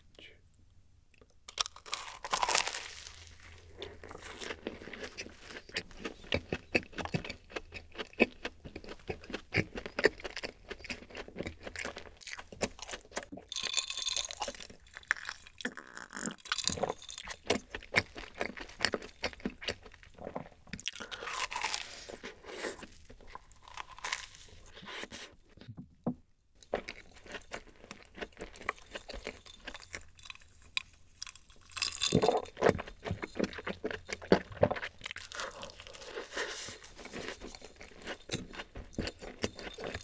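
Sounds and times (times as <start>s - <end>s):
crisp biting and chewing: 1.2s - 25.1s, 26.6s - 40.0s.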